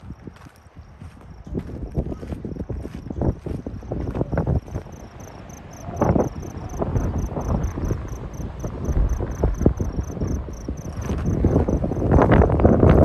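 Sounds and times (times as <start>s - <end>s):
footsteps on dirt trail: 0.0s - 13.0s
wind buffeting microphone: 0.0s - 13.0s.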